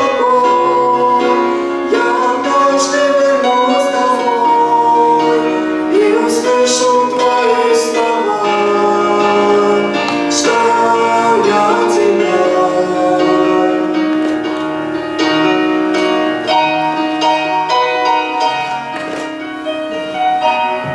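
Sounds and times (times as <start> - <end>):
hymn singing: 0.0 - 20.9
keyboard chords: 0.0 - 20.9.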